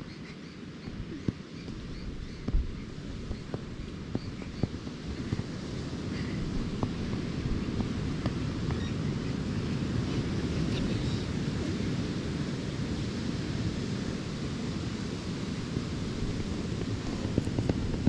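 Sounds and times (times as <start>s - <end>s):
wind buffeting microphone: 0.0s - 18.0s
ocean surf: 2.5s - 18.0s.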